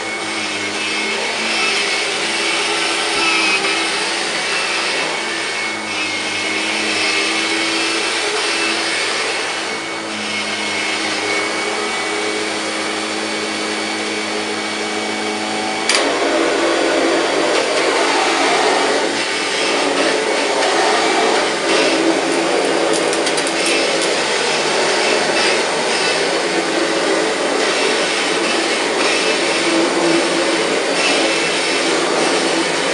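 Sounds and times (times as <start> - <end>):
vacuum cleaner running on carpet: 0.0 - 32.9.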